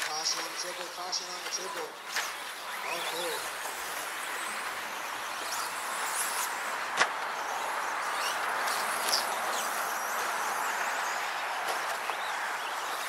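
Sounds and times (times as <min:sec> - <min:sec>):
rc truck motor whines: 0:00.0 - 0:13.0.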